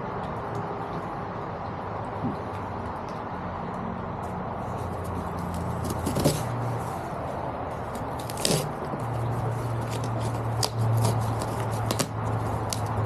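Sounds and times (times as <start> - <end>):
freeway traffic: 0.0 - 13.0.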